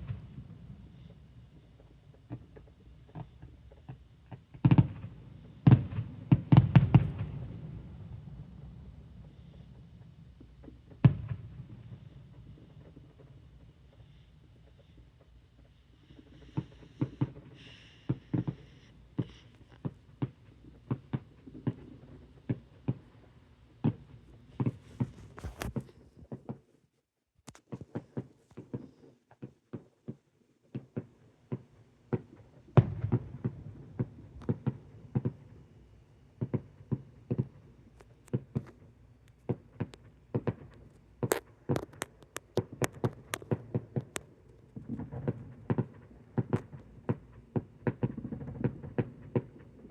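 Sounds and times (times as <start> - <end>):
fireworks bangs and pops: 0.0 - 26.7, 27.4 - 49.9.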